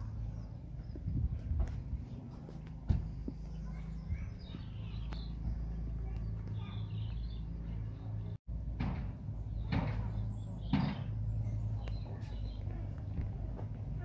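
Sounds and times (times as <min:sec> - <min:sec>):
small birds chirping: 0:00.0 - 0:08.4, 0:09.2 - 0:14.0
low outdoor rumble: 0:00.0 - 0:14.0.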